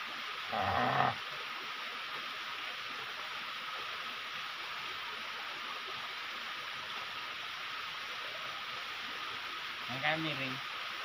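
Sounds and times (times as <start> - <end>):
stream running over rocks: 0.0 - 11.0
waterfall splashing: 0.0 - 11.0.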